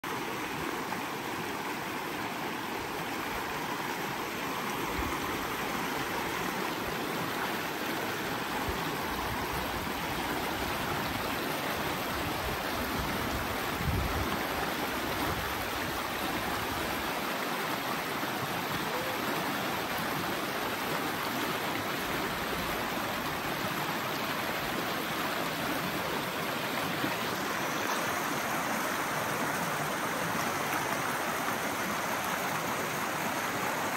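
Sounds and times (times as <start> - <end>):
creek rushing over rocks: 0.0 - 33.9.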